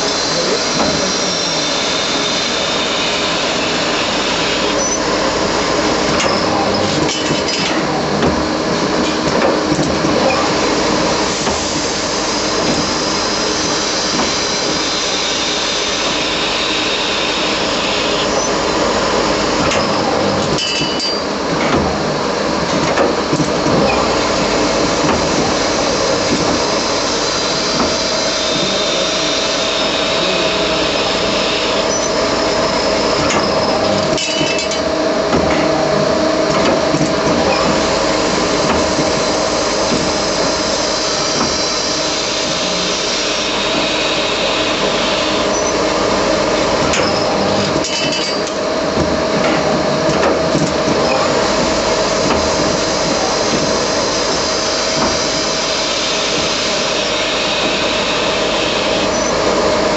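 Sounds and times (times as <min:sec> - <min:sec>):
lathe running: 0:00.0 - 0:59.9.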